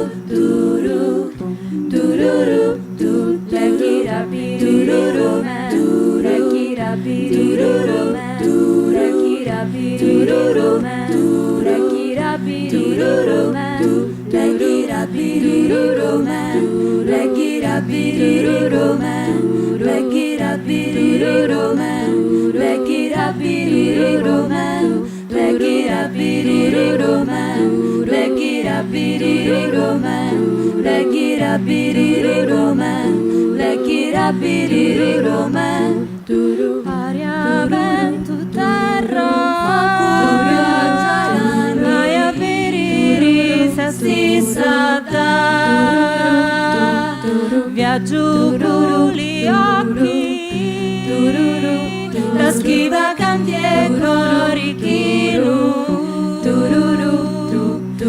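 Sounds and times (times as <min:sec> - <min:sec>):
a cappella group singing: 0:00.0 - 0:58.0.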